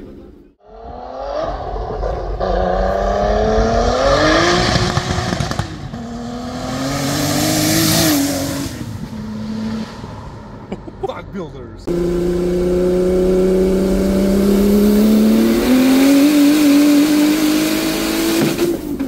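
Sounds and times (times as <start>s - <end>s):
car engine accelerating hard: 0.7s - 10.6s, 11.8s - 19.0s.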